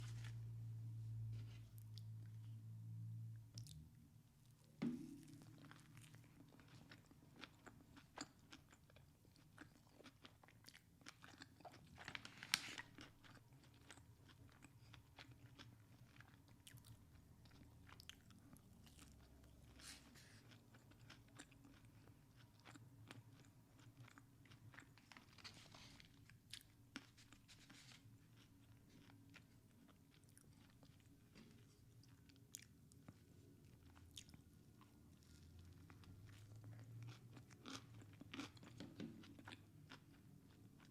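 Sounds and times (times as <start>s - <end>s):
person chewing food: 4.5s - 40.9s.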